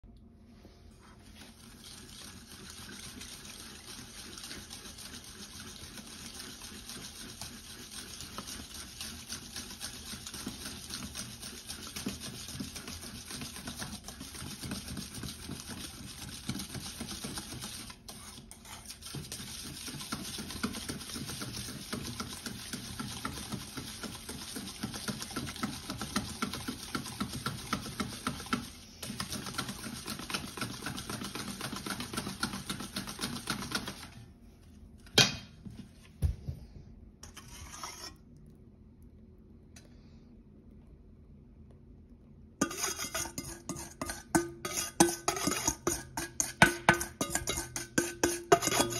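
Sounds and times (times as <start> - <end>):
whisk rattling in metal bowl: 1.4 - 34.2, 37.2 - 38.2, 42.6 - 48.9.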